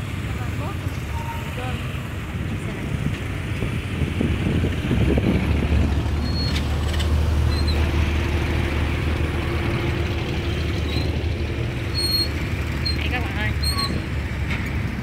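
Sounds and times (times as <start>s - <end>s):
motorbike engines pulling away: 0.0s - 15.0s.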